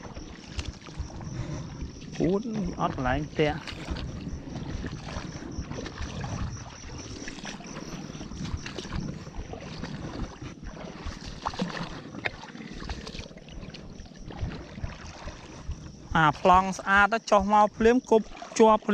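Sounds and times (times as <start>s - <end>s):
water sloshing and splashing: 0.0s - 18.9s.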